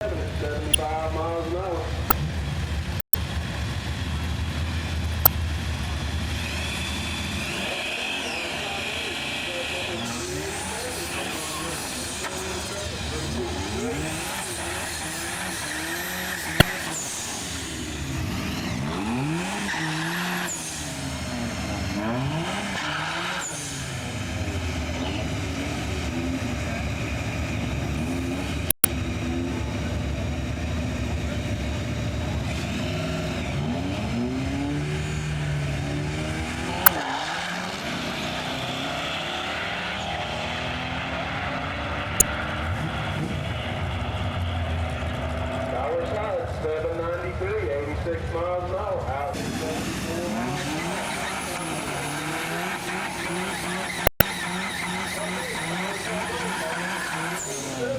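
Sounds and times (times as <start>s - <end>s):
drag racing engines revving: 3.4s - 57.9s.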